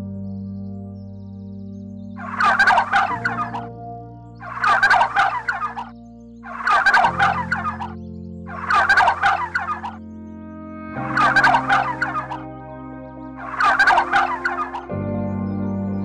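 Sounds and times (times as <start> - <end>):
soft background music chords: 0.0 - 16.0.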